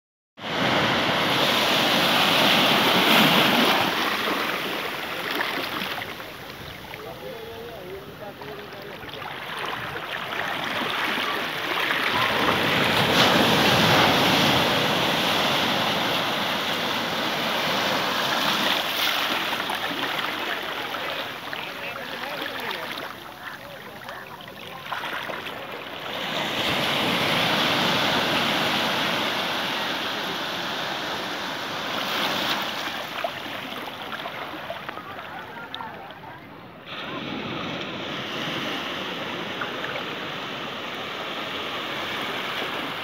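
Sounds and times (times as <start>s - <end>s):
waves washing over rocks: 0.4s - 43.0s.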